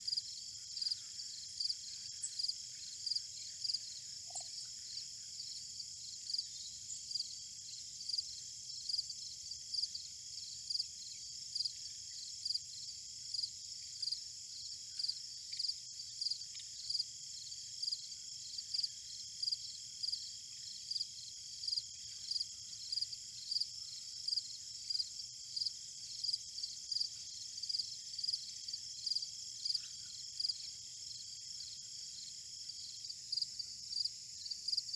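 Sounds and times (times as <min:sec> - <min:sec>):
insect chirping: 0:00.1 - 0:34.9.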